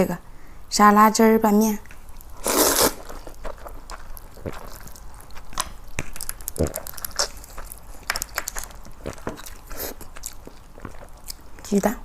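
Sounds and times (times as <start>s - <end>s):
wet mouth chewing clicks: 1.8s - 11.9s.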